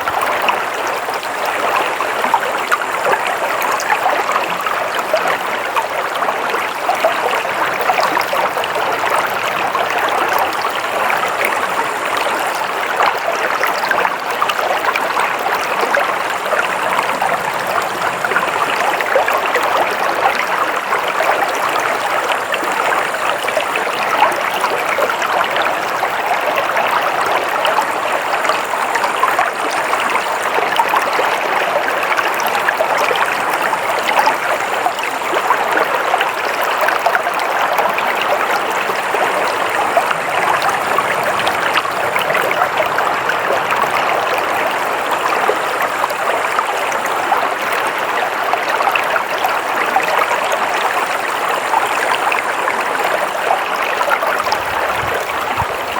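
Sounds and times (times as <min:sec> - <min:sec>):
stream flowing over rocks: 0:00.0 - 0:55.9.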